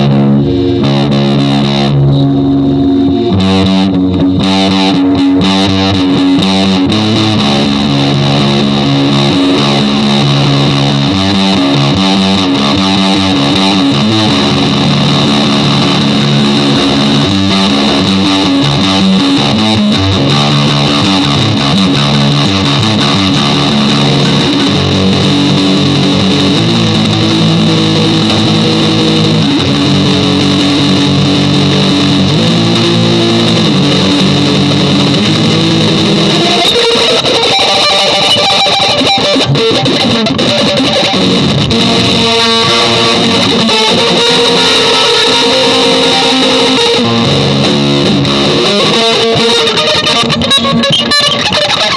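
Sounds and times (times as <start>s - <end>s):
electric guitar chords: 0.0s - 51.9s.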